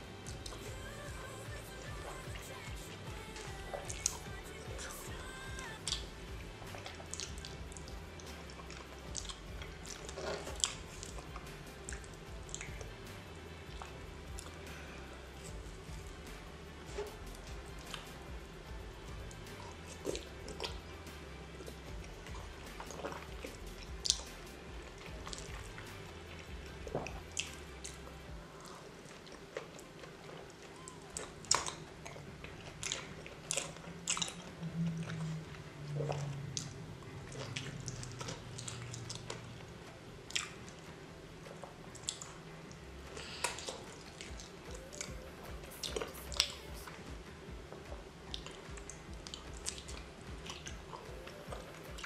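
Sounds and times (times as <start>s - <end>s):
wet chewing of raw fish: 0.0s - 52.0s
mouth clicks and smacks: 2.9s - 40.9s, 41.5s - 52.0s.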